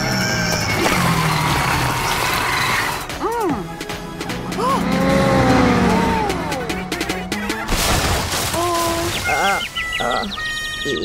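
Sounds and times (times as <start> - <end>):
cartoon background music: 0.0 - 11.0.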